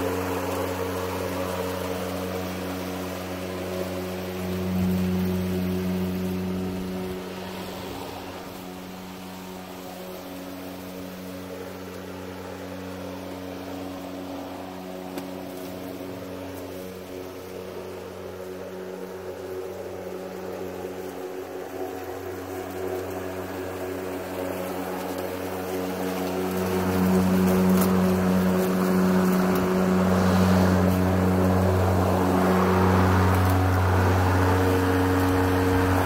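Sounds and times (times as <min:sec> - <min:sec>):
electric lawn mower cutting grass: 0:00.0 - 0:36.0.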